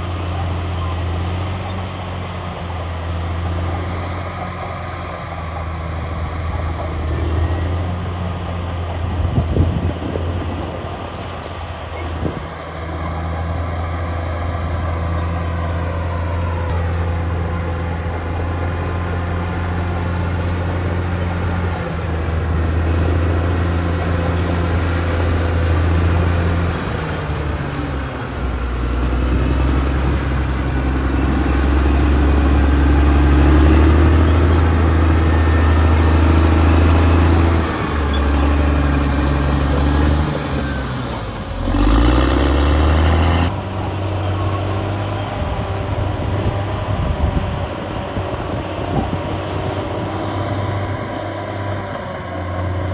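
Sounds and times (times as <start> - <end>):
bulldozer diesel engine under load: 0.0 - 52.9
steel tracks clanking and squealing: 0.0 - 52.9.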